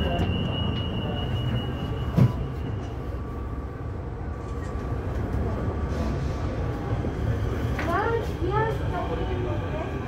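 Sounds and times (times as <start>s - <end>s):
metro train rumbling in tunnel: 0.0s - 10.0s.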